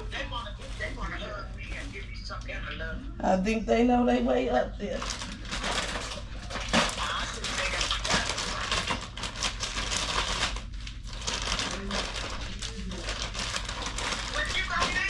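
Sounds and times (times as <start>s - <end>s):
crinkling and rustling: 0.0s - 2.2s, 5.0s - 15.0s.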